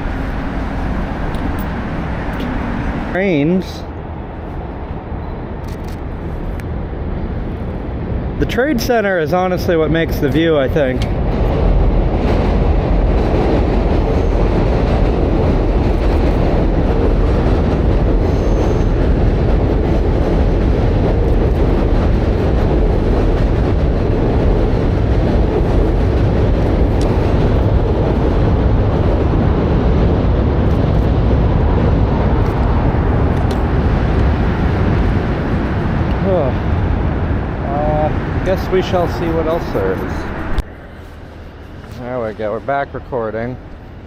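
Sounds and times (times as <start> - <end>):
moving train rumble: 0.0 - 44.0.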